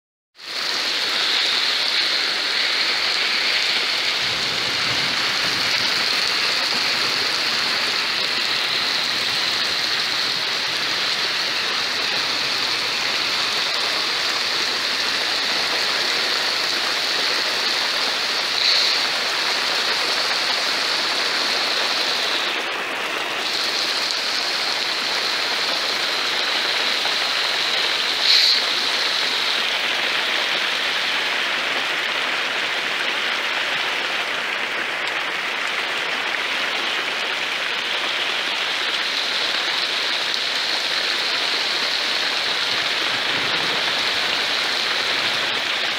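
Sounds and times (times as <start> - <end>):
heavy rain: 0.4 - 45.9.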